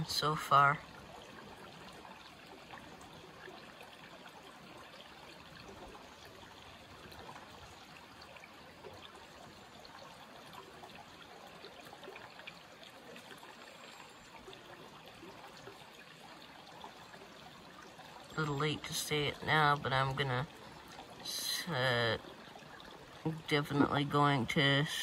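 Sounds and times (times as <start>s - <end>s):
shallow creek trickling: 0.0s - 25.0s
small water splashes: 0.0s - 25.0s.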